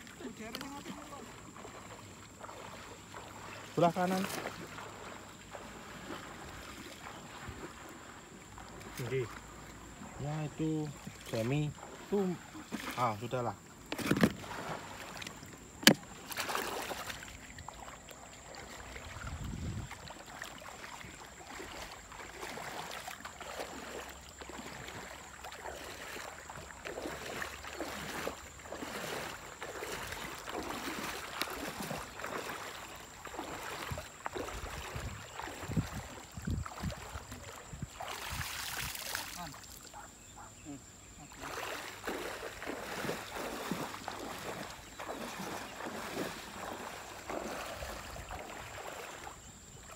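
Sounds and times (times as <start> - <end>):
water sloshing and splashing: 0.0 - 49.9.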